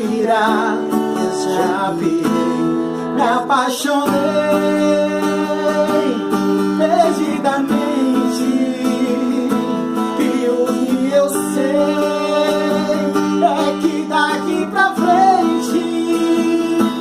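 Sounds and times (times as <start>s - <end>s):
acoustic guitar playing: 0.0s - 17.0s
person singing wordlessly: 0.0s - 17.0s.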